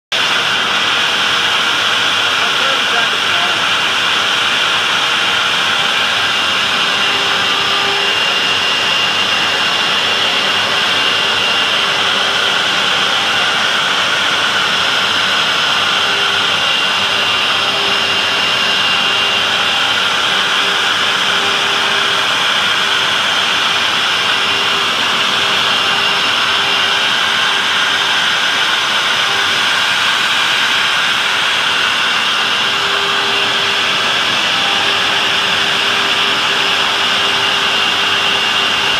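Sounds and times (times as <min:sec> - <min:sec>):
constant machine hum: 0:00.1 - 0:38.9
high machine whine: 0:00.1 - 0:38.9
industrial machinery rushing: 0:00.1 - 0:38.9.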